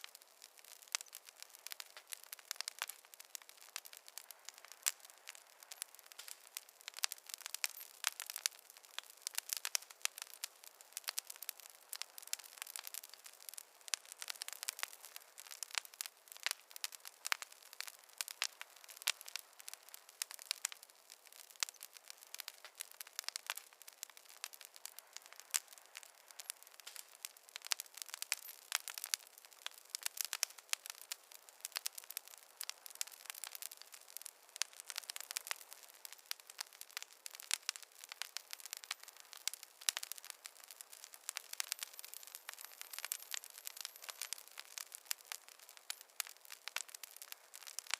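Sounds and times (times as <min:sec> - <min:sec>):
faint hiss: 0:00.0 - 0:47.9
wood fire crackling: 0:00.0 - 0:47.9.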